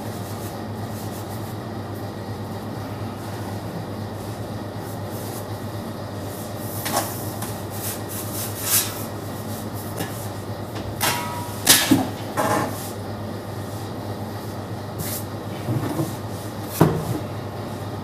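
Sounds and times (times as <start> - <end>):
kitchen equipment humming: 2.1 - 18.0.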